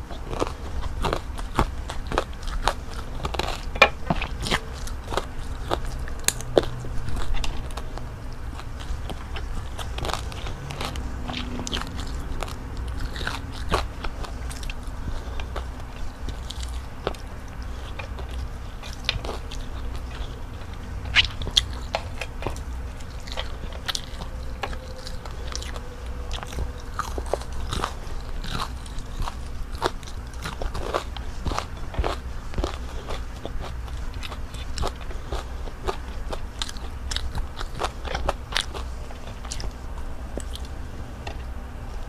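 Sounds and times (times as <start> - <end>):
crunching and chewing fried food: 0.0 - 42.0.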